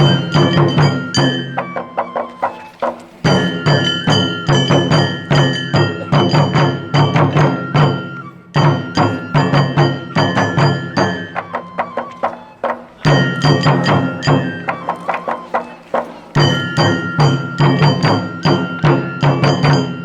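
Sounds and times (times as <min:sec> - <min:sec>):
deep drum beats: 0:00.0 - 0:20.0
ringing metal percussion: 0:00.0 - 0:20.0.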